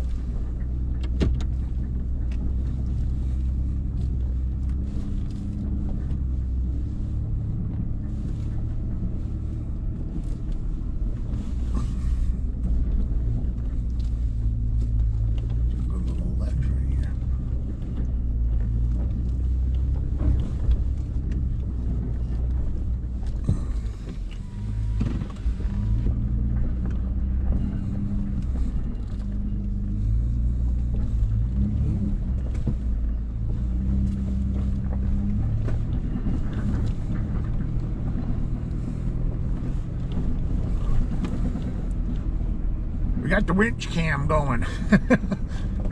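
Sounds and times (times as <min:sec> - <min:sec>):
truck engine pulling at low speed: 0:00.0 - 0:45.9.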